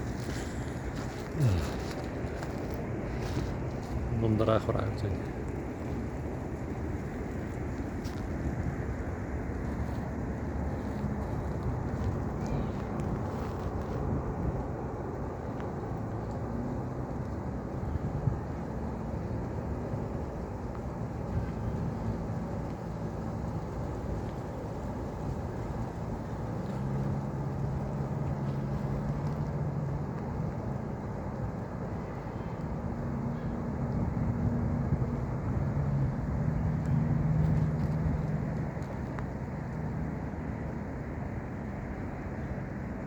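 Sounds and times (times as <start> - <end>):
distant traffic hum: 0.0 - 43.0
engine drone: 0.0 - 43.0.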